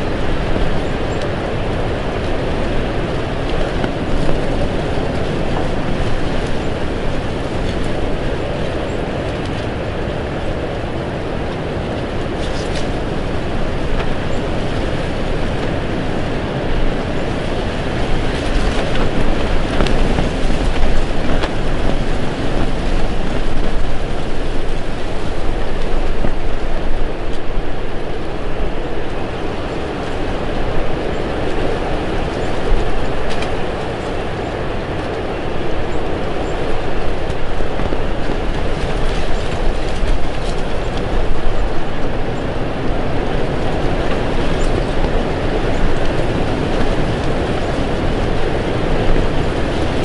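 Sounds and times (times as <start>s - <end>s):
strong wind buffeting microphone: 0.0s - 50.0s.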